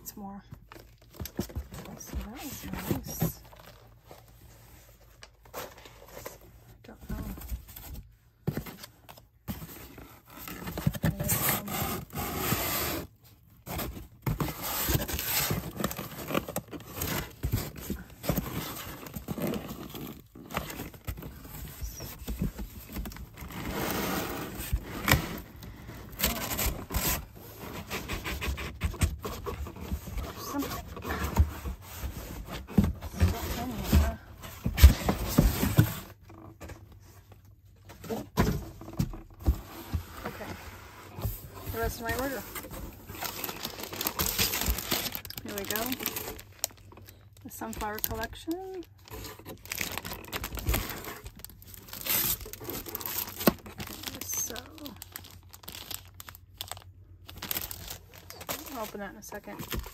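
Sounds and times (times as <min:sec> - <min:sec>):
packaging scraping and rustling: 0:00.6 - 0:59.9.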